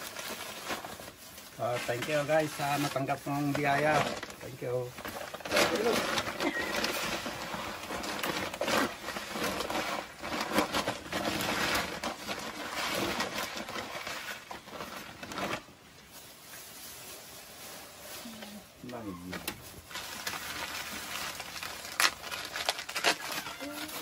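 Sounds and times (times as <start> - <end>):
plastic bag rustling: 0.0 - 24.0.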